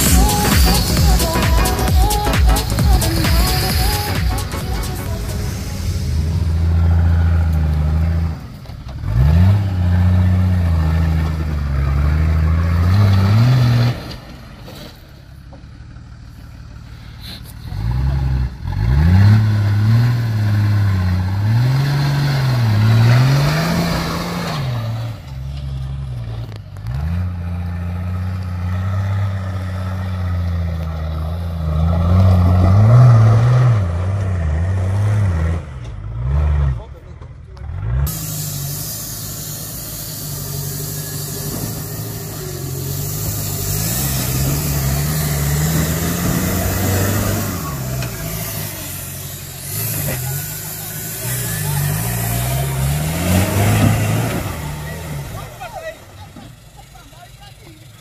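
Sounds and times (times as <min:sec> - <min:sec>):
off-road vehicle engines revving: 0:00.0 - 0:58.0.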